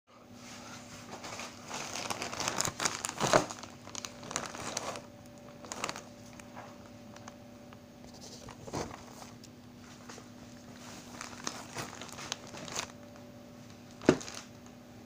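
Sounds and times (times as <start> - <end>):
plastic mailer crinkling: 1.2 - 14.8.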